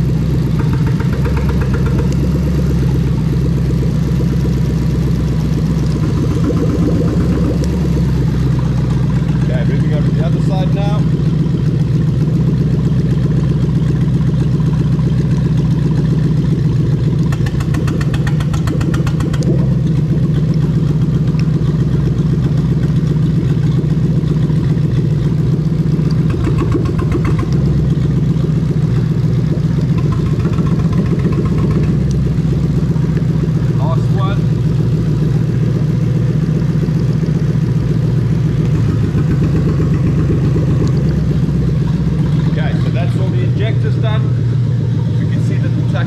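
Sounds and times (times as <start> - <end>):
loud engine running: 0.0 - 46.0.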